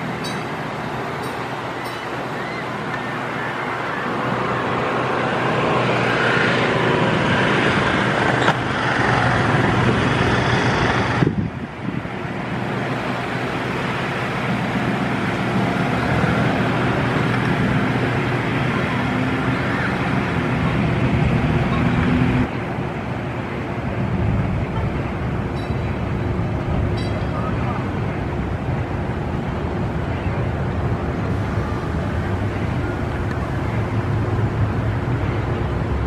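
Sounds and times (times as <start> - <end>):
road traffic hiss: 0.0 - 36.0.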